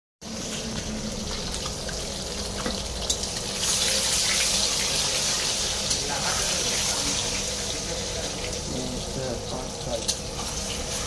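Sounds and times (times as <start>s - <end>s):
eggs sizzling in hot oil: 0.2s - 11.0s.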